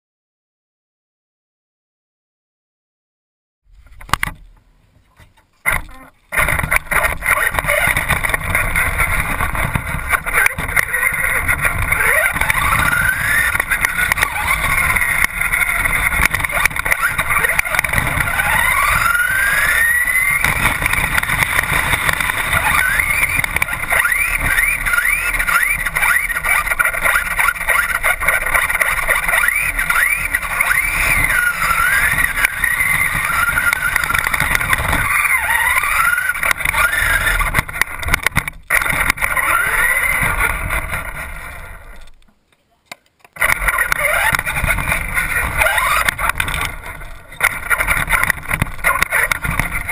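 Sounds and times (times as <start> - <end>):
chassis and wheels rattling: 3.8 - 42.2, 43.3 - 49.9
rc car motor whining: 6.4 - 42.2, 43.4 - 49.9.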